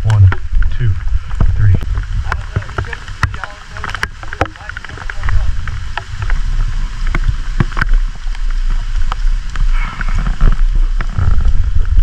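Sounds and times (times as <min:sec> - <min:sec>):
rain: 0:00.0 - 0:12.0
wind: 0:00.0 - 0:12.0.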